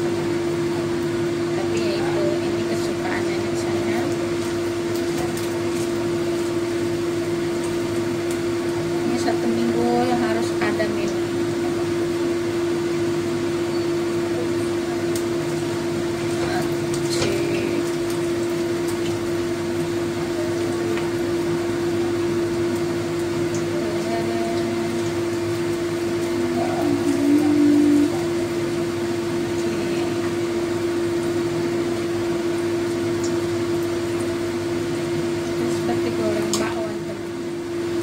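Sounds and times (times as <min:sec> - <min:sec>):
machine hum: 0:00.0 - 0:38.0
patties sizzling in oil: 0:00.0 - 0:38.0.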